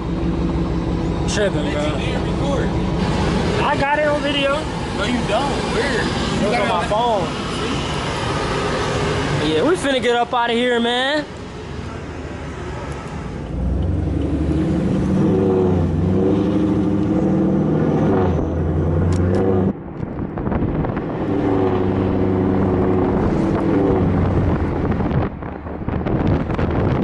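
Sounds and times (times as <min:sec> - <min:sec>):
car engine accelerating hard: 0:00.0 - 0:10.0, 0:11.3 - 0:27.0.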